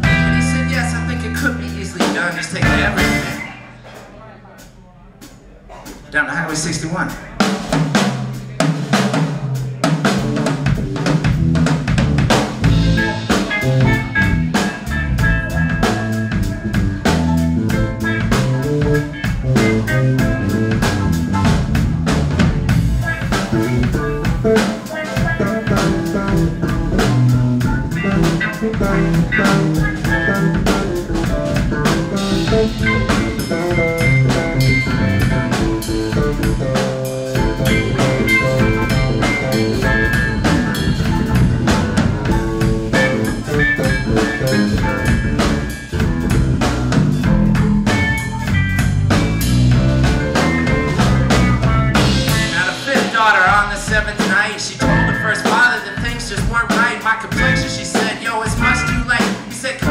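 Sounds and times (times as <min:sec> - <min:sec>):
funk band playing: 0:00.0 - 0:59.9.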